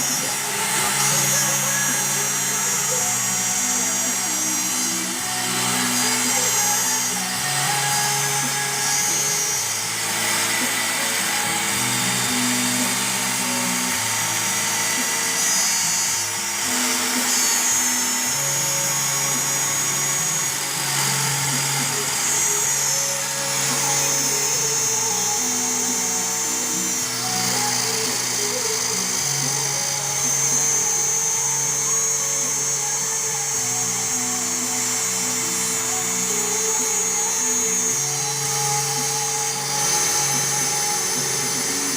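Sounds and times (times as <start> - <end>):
background music with beat: 0.0 - 41.9
router spindle whine: 0.0 - 41.9.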